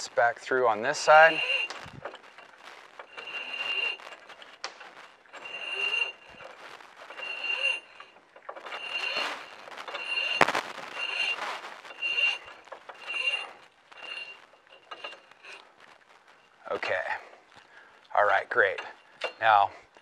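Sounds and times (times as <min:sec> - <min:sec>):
wire cable squeaking against metal: 0:00.1 - 0:19.6.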